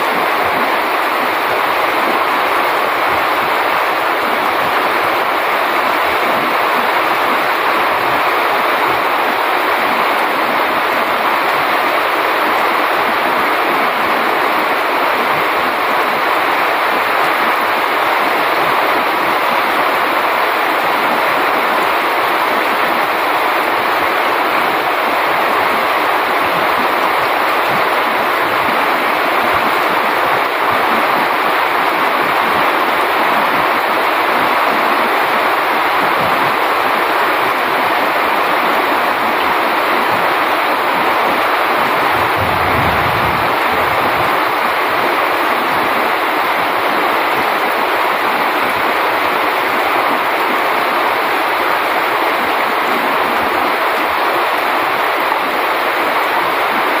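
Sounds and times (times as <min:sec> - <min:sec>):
heavy rain on leaves: 0:00.0 - 0:57.0.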